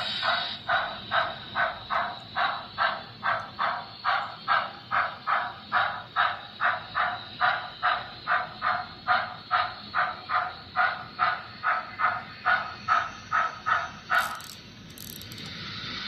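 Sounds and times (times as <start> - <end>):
model locomotive chuffing: 0.0 - 16.0.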